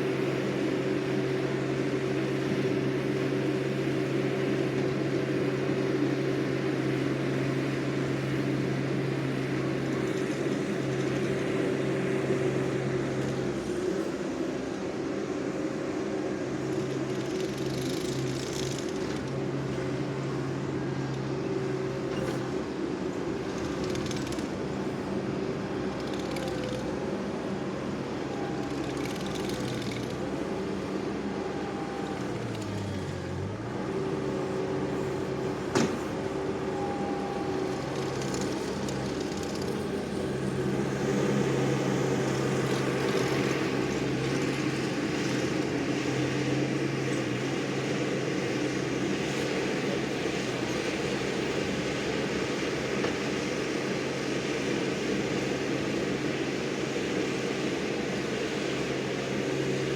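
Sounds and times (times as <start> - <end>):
track loader engine running: 0.0 - 59.9.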